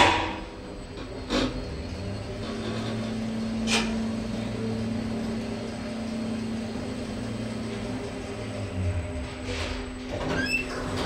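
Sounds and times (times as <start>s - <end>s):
lift drive hum: 0.0s - 11.0s.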